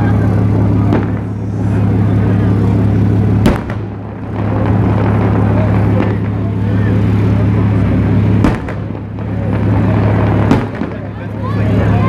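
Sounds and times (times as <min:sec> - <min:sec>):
fireworks cracking and banging: 0:00.0 - 0:12.0
steady low hum: 0:00.0 - 0:12.0.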